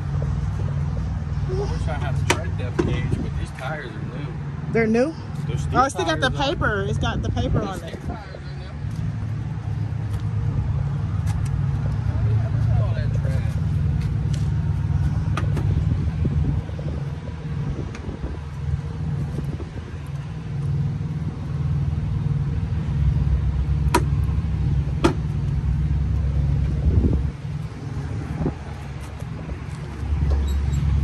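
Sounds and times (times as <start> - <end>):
vehicle engines rumbling: 0.0 - 31.0.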